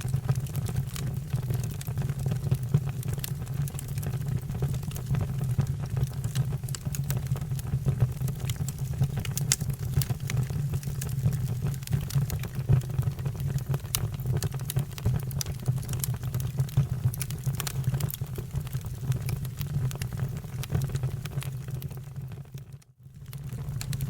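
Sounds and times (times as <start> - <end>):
fire rumbling: 0.0 - 22.3, 23.2 - 24.0
fire crackling and popping: 0.0 - 24.0.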